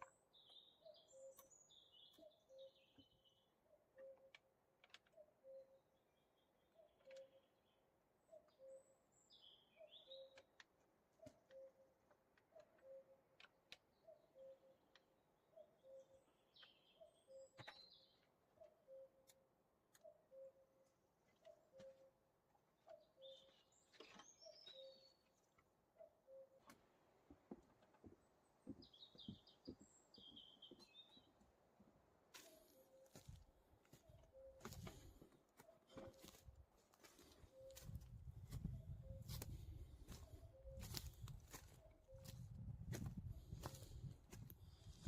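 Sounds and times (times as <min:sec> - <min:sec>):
birds chirping and twittering: 0:00.0 - 0:45.0.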